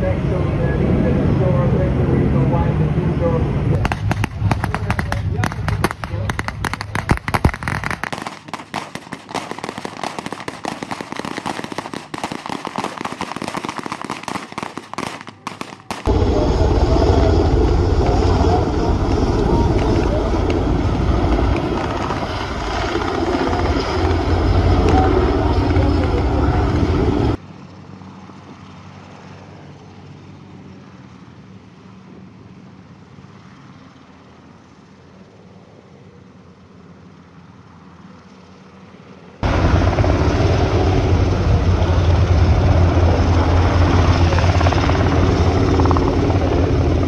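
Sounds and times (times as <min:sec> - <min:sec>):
helicopter rotors and engines: 0:00.0 - 0:47.0.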